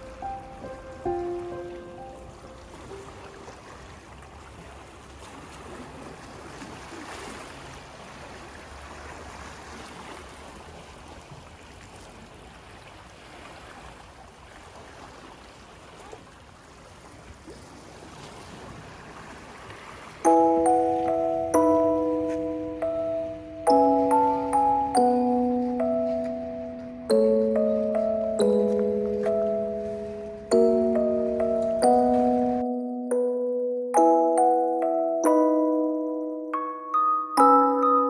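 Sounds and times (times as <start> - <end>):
sea waves washing on shore: 0.0 - 32.7.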